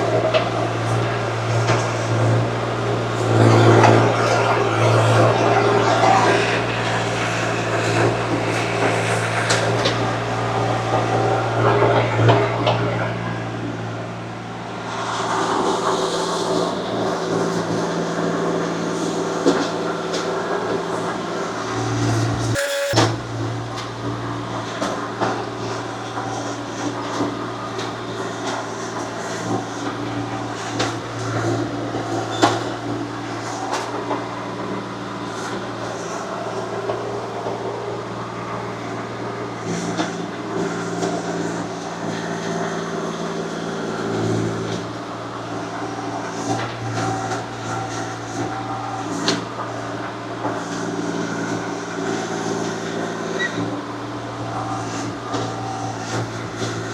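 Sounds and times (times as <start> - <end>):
excavator engine running: 0.0 - 50.1.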